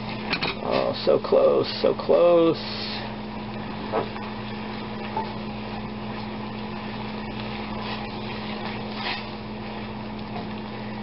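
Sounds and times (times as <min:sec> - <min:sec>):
liquid boiling in saucepan: 0:00.0 - 0:11.0
steady low hum: 0:00.0 - 0:11.0.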